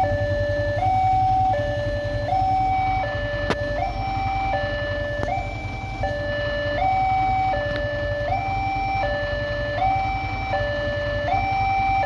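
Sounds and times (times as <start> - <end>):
low engine rumble: 0.0 - 12.0
two-tone warning siren: 0.0 - 12.0.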